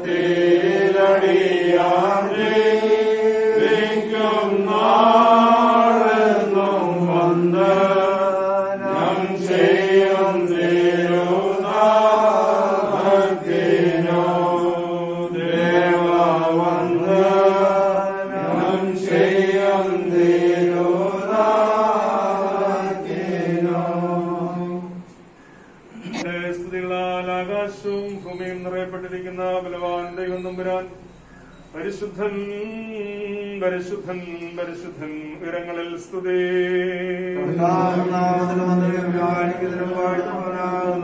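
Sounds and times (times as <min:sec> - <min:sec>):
slow hymn singing: 0:00.0 - 0:41.0.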